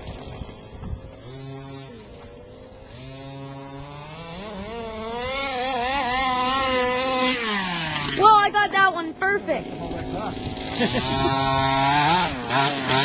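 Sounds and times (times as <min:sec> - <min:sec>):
small two-stroke engine buzzing: 0:00.0 - 0:13.0.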